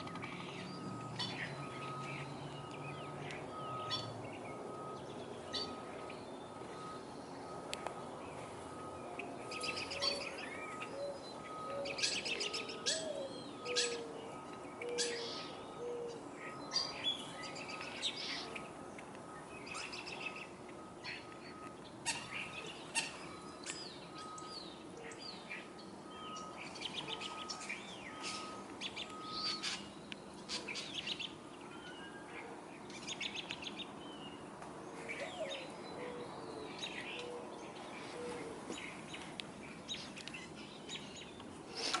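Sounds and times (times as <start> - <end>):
birds chirping and calling: 0.0 - 42.0.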